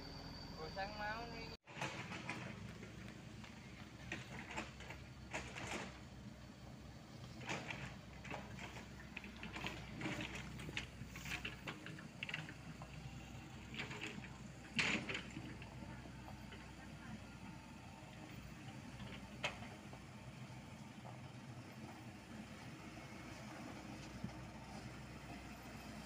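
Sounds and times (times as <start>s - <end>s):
truck clanks and rattles: 1.7s - 26.0s
truck diesel engine running low: 1.7s - 26.0s.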